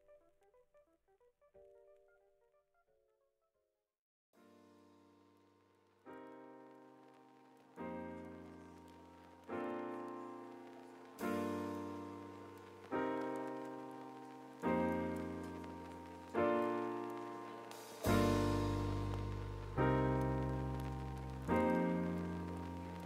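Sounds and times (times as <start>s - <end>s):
slow piano chords: 4.4s - 23.0s.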